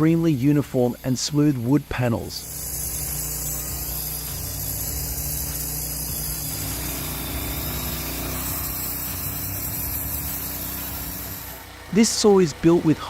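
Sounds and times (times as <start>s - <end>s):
sawmill machine running: 0.0s - 13.0s.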